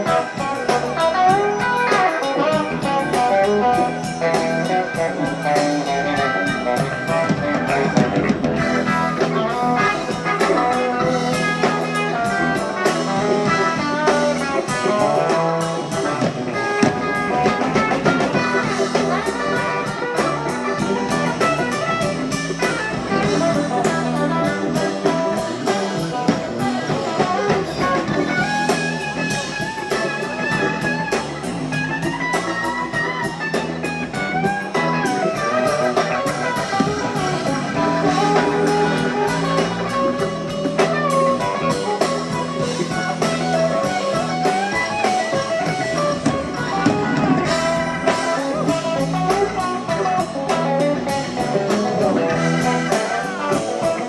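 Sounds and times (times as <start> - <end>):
drums: 0.0 - 54.0
electric guitar lead: 0.0 - 54.0
live band playing: 0.0 - 54.0.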